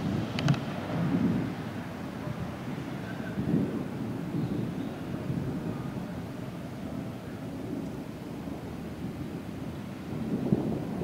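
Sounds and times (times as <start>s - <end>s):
thunder rumbling: 0.0s - 1.8s, 2.4s - 11.0s.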